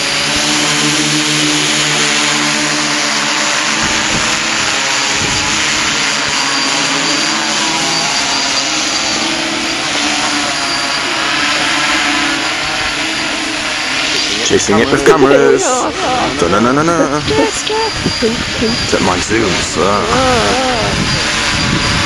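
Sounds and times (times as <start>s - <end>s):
drone propellers whirring: 0.0s - 22.0s.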